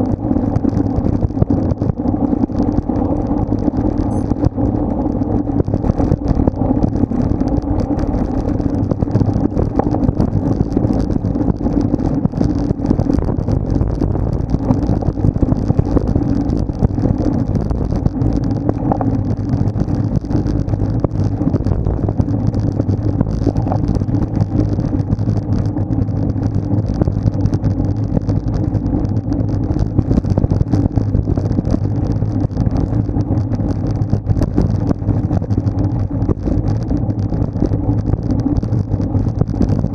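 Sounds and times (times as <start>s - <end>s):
tyre and road noise: 0.0s - 39.9s
wind rush over microphone: 0.0s - 39.9s.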